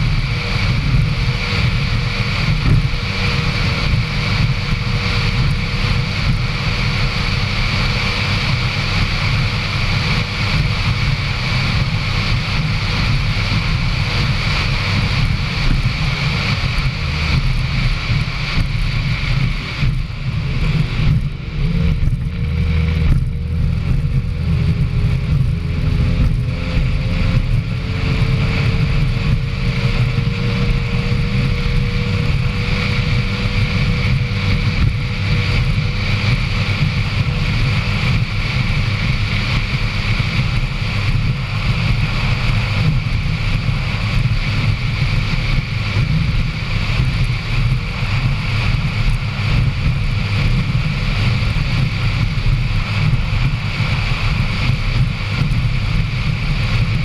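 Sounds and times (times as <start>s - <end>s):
powerboat engines running hard: 0.0s - 57.0s
wind noise on microphone: 0.0s - 57.0s.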